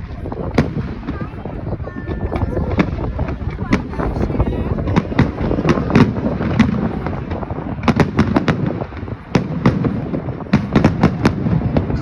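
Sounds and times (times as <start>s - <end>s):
distant explosions rumbling: 0.0s - 12.0s
firework bangs and pops: 0.0s - 12.0s.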